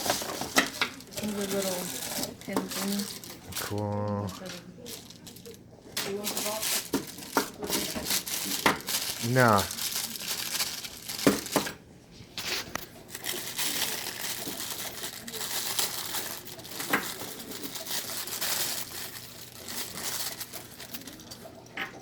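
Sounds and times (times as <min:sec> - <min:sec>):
packaging crinkling and rustling: 0:00.0 - 0:21.7.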